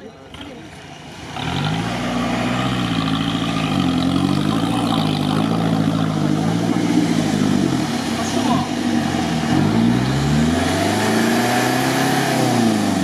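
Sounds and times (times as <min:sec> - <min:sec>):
truck engine revving under load: 0:00.2 - 0:13.0
water churning: 0:00.3 - 0:13.0.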